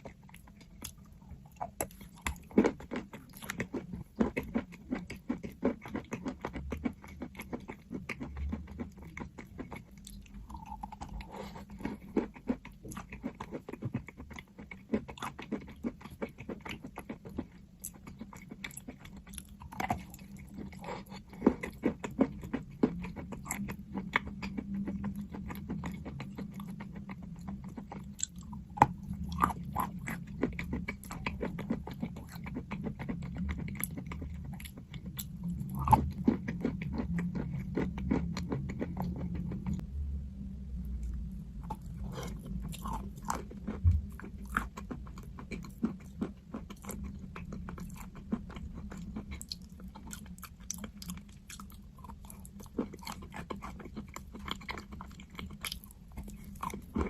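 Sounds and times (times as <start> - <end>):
person chewing crunchy chalk: 0.0 - 39.8, 41.0 - 57.0.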